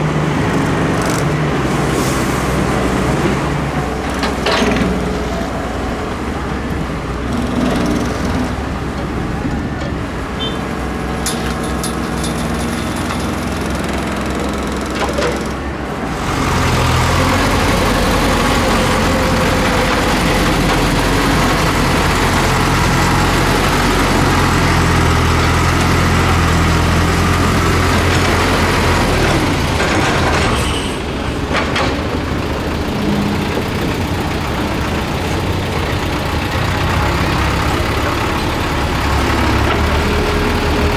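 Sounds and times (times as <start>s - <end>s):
dump truck diesel engine: 0.0s - 40.9s
excavator diesel engine: 0.0s - 40.9s.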